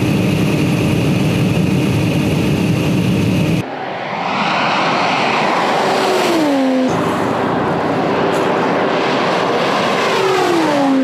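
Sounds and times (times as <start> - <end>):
car engine at full throttle: 0.0 - 11.0
wind rush: 0.0 - 11.0.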